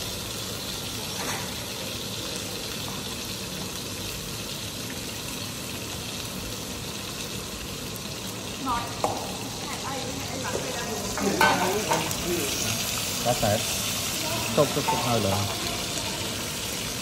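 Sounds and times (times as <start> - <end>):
meat and carrots sizzling in pans: 0.0 - 17.0.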